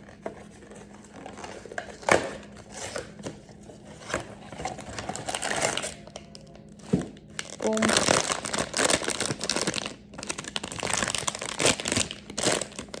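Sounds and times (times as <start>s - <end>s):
package rustling: 0.0s - 13.0s.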